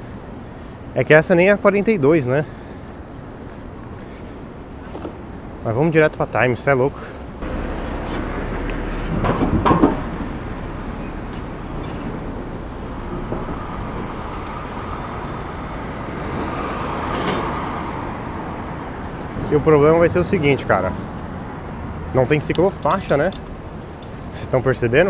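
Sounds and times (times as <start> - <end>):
street traffic: 0.0 - 25.0.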